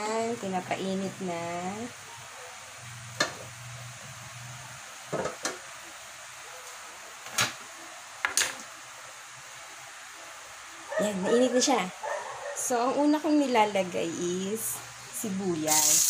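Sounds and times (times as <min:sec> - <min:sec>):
gas stove hissing: 0:00.0 - 0:12.0, 0:12.6 - 0:16.0.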